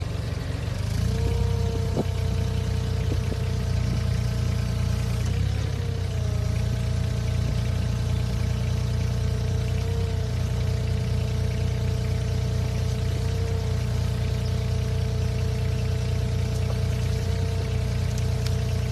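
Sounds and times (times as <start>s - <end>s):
heavy machine engine humming: 0.0s - 18.9s.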